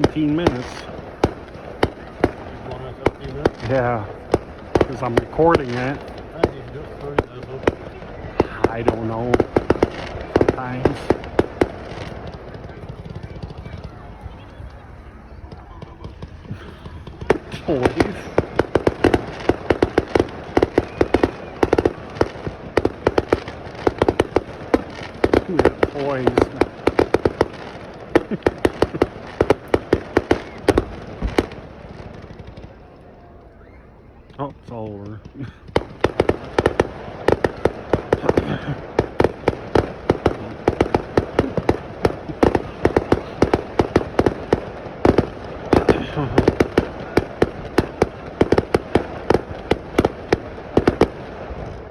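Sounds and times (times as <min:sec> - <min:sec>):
fireworks bangs and cracks: 0:00.0 - 0:51.9.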